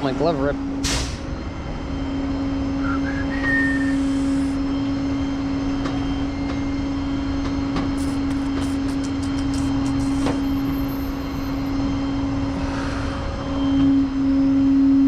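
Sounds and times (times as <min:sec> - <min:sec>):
truck engine running: 0:00.0 - 0:14.6.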